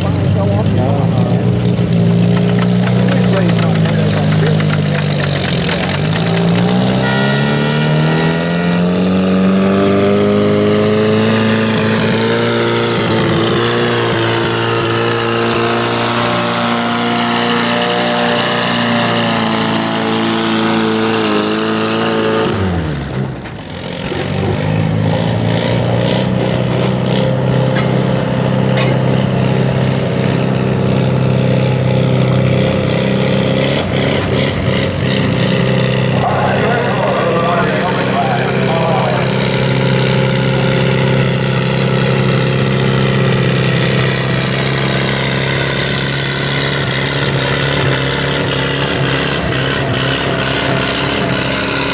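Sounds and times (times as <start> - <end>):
tractor engine revving under load: 0.0 - 51.9.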